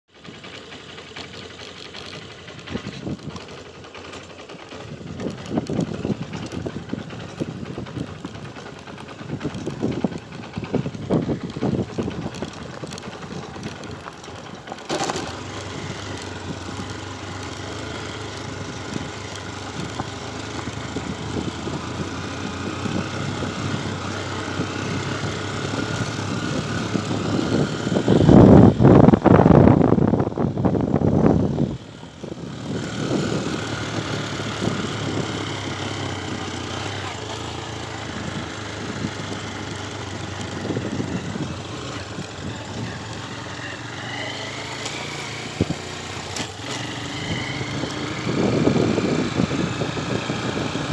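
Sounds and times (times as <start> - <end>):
motorcycle engine running: 0.1 - 50.9.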